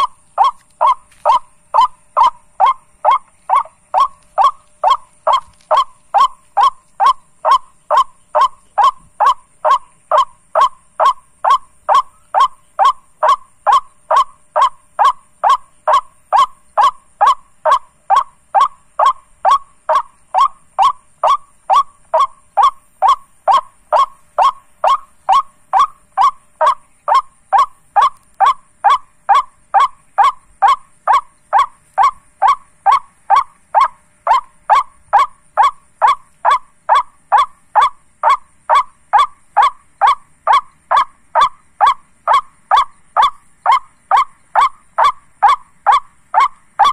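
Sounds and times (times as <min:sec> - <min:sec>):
waterhen honking call: 0:00.0 - 0:46.9.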